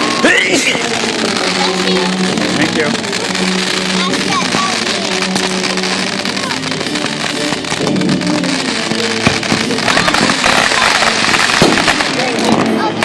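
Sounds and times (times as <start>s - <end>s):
fireworks crackling and banging: 0.0s - 13.0s
music playing: 0.0s - 13.0s.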